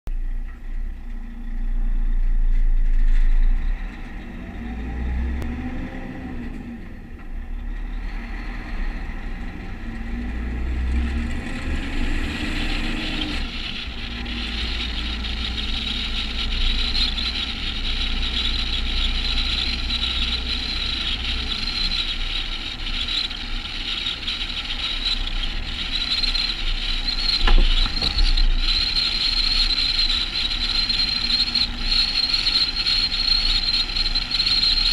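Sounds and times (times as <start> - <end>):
truck diesel engine accelerating: 0.2 - 34.9.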